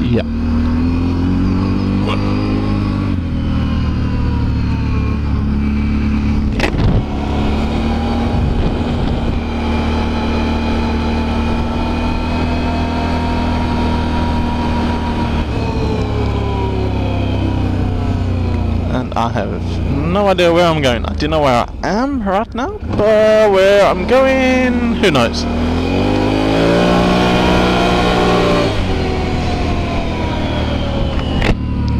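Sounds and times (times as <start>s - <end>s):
atv engine running: 0.0s - 31.9s.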